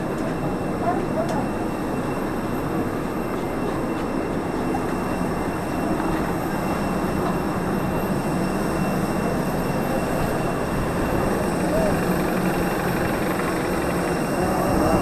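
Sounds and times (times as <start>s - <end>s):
low rumble of engines: 0.0s - 15.0s.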